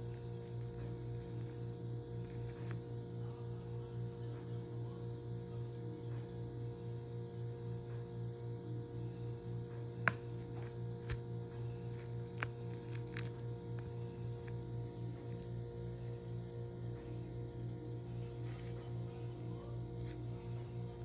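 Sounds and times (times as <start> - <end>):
pulsing low hum: 0.0 - 21.0.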